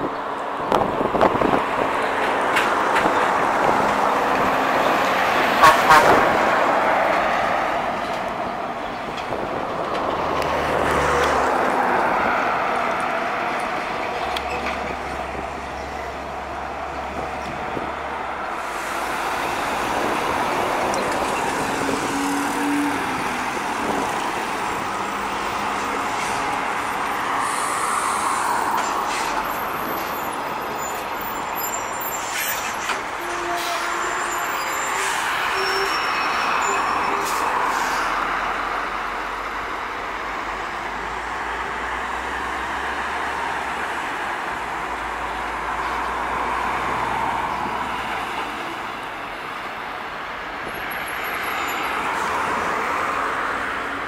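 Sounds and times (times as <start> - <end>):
diesel trucks driving past: 0.0 - 54.0.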